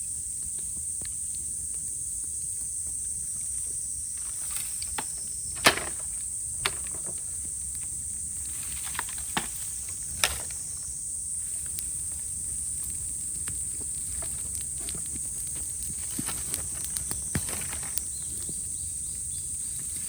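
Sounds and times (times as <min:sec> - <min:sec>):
bamboo popping in a bonfire: 0:00.0 - 0:20.0
cicadas droning: 0:00.0 - 0:20.0.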